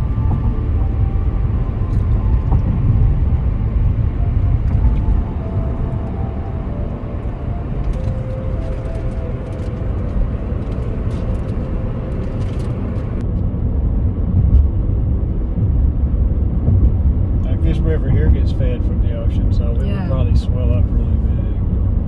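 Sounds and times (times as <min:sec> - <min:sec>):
road noise inside car: 0:00.0 - 0:22.0.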